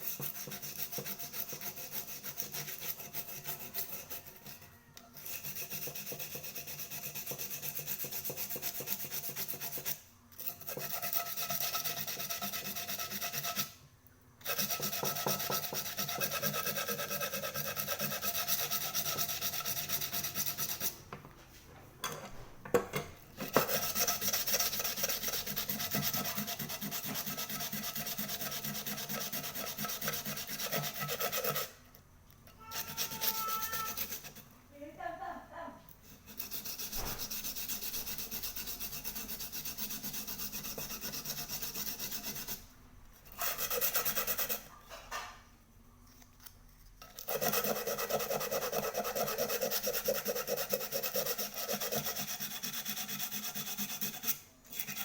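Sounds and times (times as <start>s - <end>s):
abrasive rasping on metal: 0.0s - 13.8s, 14.4s - 21.0s, 23.4s - 31.8s, 32.5s - 34.5s, 36.1s - 44.8s, 47.2s - 55.0s.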